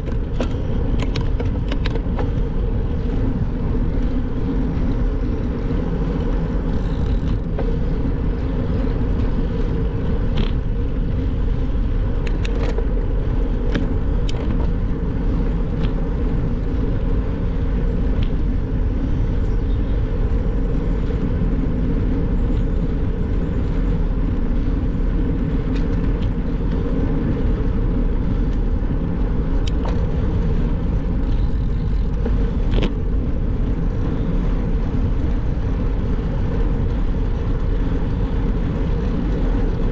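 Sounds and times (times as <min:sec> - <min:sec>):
bicycle clicks and rattles: 0:00.0 - 0:39.9
wind and road noise from bicycle: 0:00.0 - 0:39.9.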